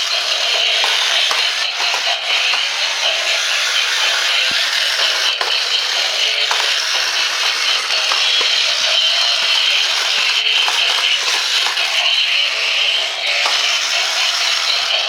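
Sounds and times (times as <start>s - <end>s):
toy gear motor whirring: 0.0s - 15.0s
toy rattling: 0.0s - 15.0s.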